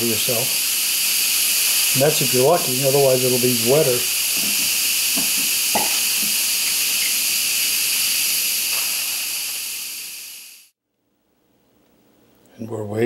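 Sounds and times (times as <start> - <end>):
pressure cooker steam hissing: 0.0 - 10.7.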